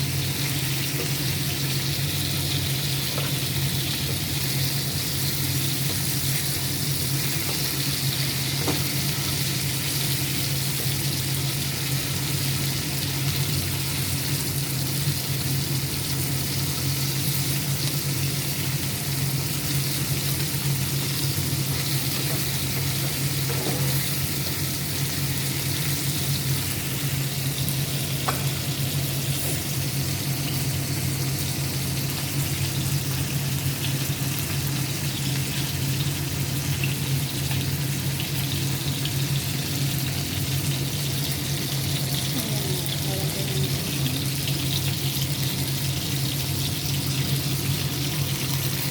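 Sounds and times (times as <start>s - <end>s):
chicken frying in oil: 0.0s - 48.9s.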